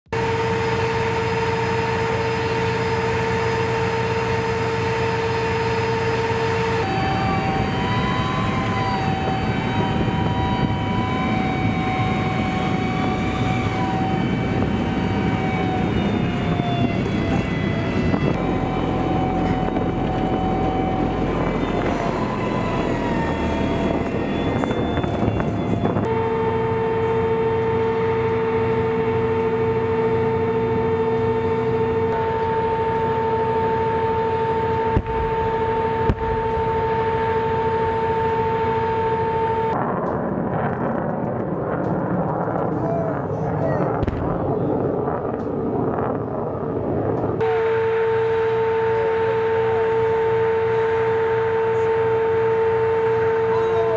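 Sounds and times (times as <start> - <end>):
tank turbine engine whining: 0.1 - 53.9.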